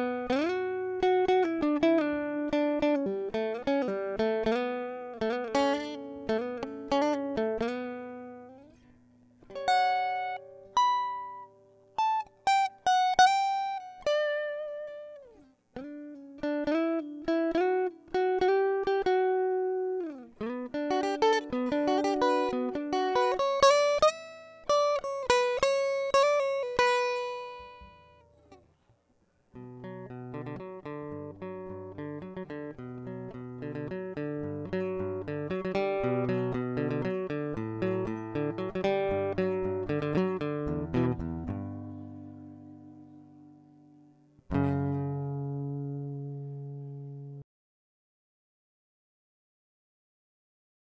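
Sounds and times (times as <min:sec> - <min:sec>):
picked guitar chord patterns: 0:00.0 - 0:28.6, 0:29.6 - 0:47.4
acoustic guitar plucked melody: 0:00.0 - 0:28.9, 0:29.5 - 0:47.4.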